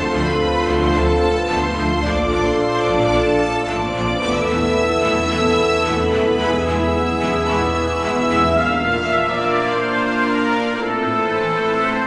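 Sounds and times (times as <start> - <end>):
sustained instrumental chords: 0.0 - 12.0.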